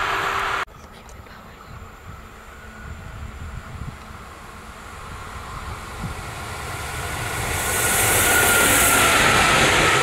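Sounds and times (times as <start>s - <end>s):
train high whine: 0.0s - 0.7s, 1.4s - 10.0s
train passing at speed: 0.0s - 0.7s, 1.3s - 10.0s.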